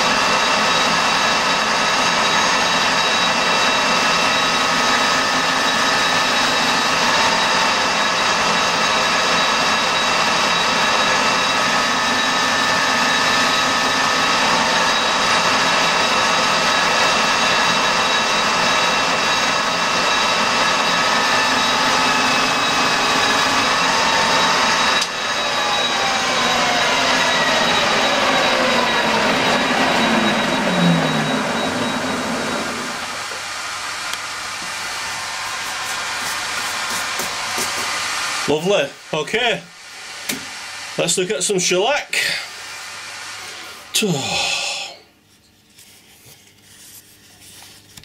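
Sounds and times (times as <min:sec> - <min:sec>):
metal lathe whining: 0:00.0 - 0:45.0.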